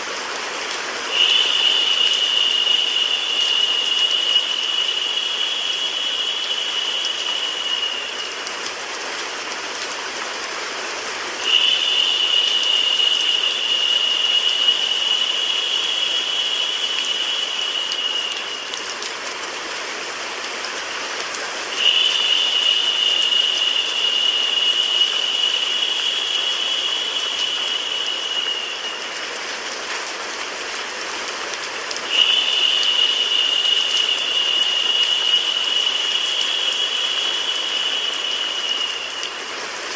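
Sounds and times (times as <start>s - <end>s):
rain and white noise hiss: 0.0s - 39.9s.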